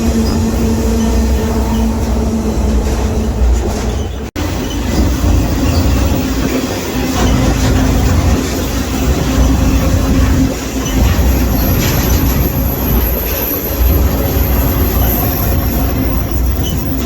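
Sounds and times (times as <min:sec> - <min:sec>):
freight train rumbling and rattling: 0:00.0 - 0:17.0.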